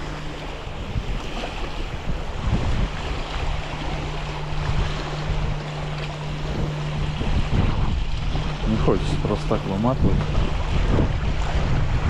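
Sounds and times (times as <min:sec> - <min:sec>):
low hum: 0:00.0 - 0:12.0
water washing against bank: 0:00.0 - 0:12.0
wind buffeting microphone: 0:00.0 - 0:12.0.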